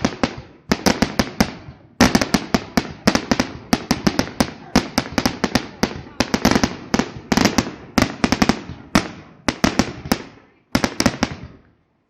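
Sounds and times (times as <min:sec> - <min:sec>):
fireworks bangs and cracks: 0:00.0 - 0:11.7.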